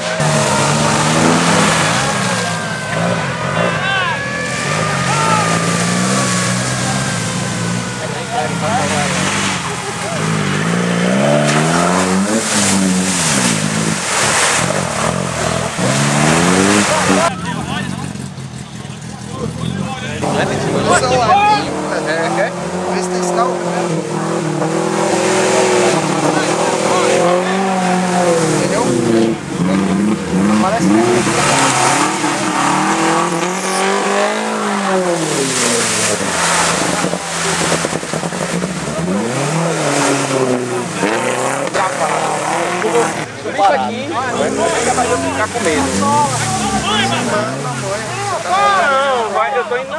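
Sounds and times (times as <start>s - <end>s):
off-road engine revving: 0.0s - 49.9s
wheels churning muddy water: 0.0s - 49.9s.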